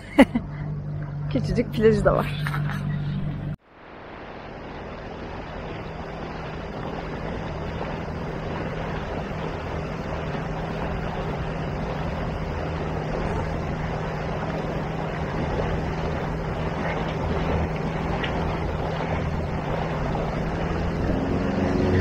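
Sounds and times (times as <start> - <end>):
outboard motor running: 0.0 - 3.6, 5.1 - 22.0
water rushing along hull: 0.0 - 22.0
wind on microphone: 0.8 - 22.0.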